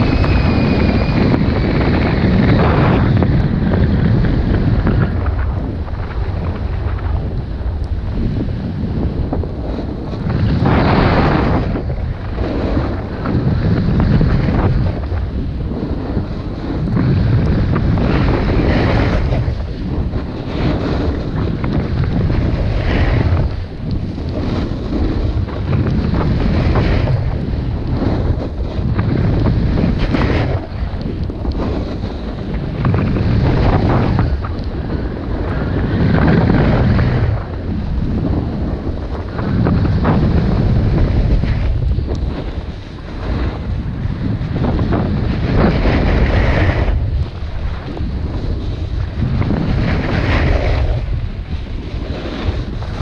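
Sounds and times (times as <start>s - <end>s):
snowboard carving snow hiss: 0.0s - 53.0s
wind buffeting microphone: 0.0s - 53.0s.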